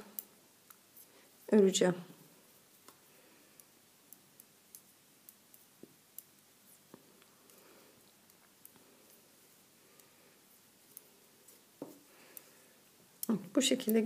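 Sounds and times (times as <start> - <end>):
knitting needles clicking: 0.0 - 1.1, 2.5 - 14.0.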